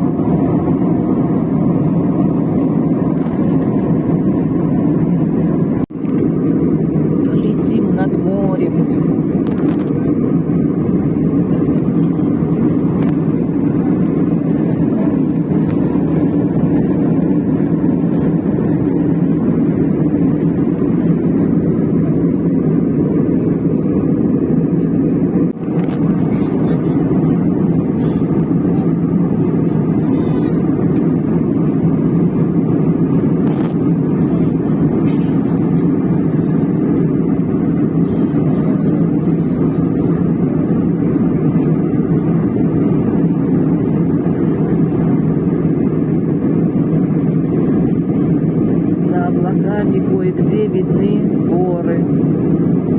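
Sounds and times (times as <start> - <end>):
airliner cabin engine rush: 0.0 - 52.9.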